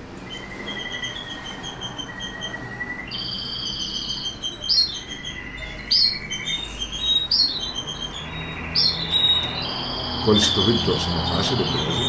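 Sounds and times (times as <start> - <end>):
canary singing trills: 0.0 - 12.0
loud sharp bird notes: 0.0 - 12.0.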